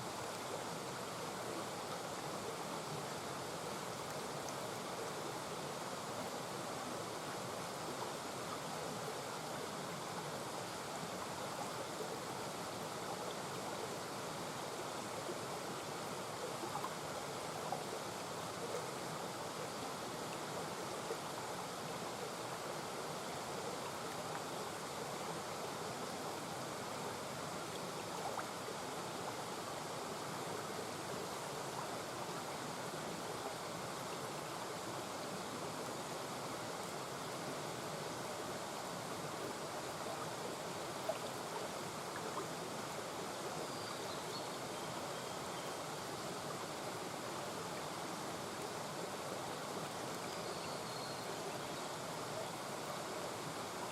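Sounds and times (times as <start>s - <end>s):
brook babbling over stones: 0.0s - 53.9s.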